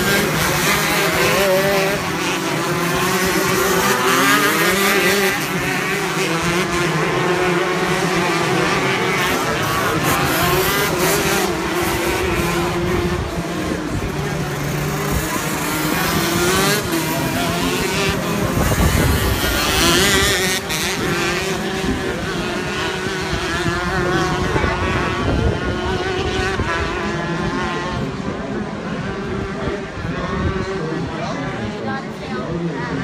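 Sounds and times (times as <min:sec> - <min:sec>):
kart engine revving: 0:00.0 - 0:33.0.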